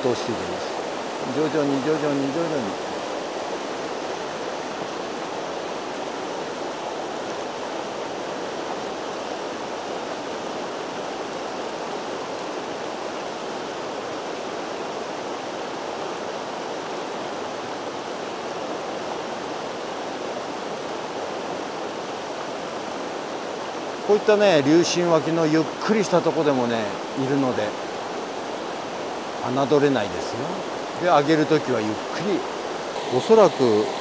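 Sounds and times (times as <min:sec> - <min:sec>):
river rapids rushing over boulders: 0:00.0 - 0:34.0.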